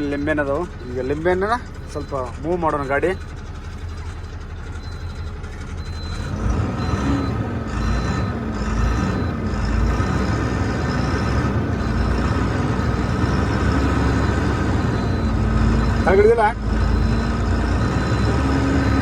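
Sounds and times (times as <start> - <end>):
electronic warning beeper: 0.0 - 4.2, 4.8 - 19.0
truck engine: 0.0 - 19.0.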